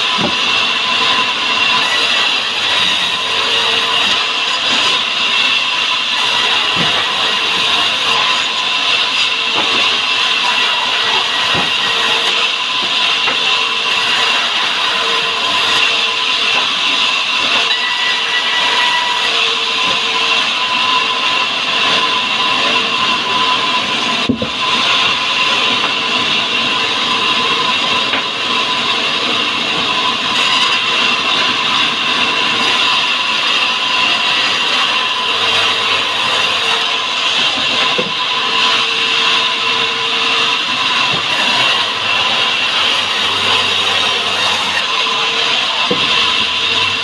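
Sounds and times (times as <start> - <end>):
band saw cutting log: 0.0 - 47.0.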